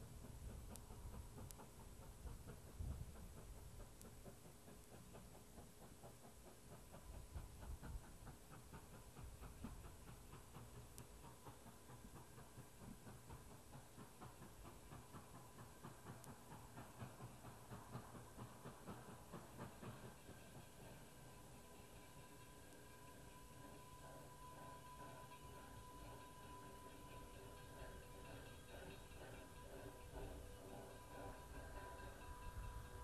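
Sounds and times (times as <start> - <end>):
steam locomotive chuffing: 0.0 - 33.0.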